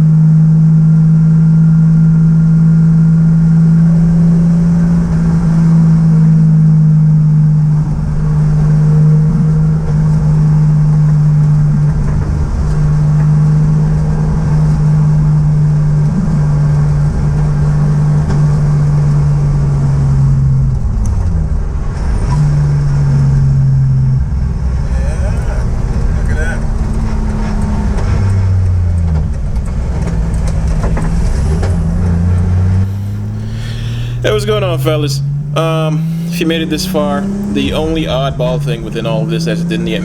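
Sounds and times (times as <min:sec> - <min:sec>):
car exhaust drone from inside: 0:00.0 - 0:30.9, 0:31.7 - 0:40.0.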